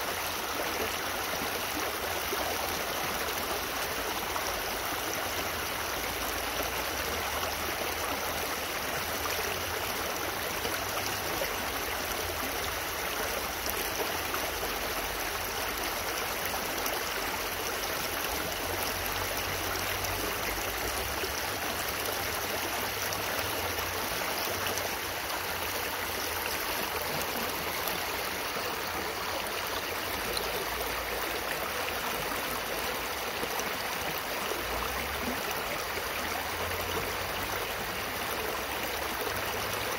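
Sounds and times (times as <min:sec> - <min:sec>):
creek water rushing over stones: 0:00.0 - 0:39.9.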